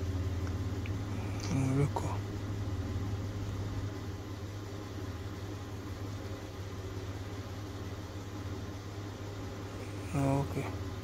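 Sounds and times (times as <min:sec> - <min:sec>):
faint noisy hiss: 0:00.0 - 0:11.0.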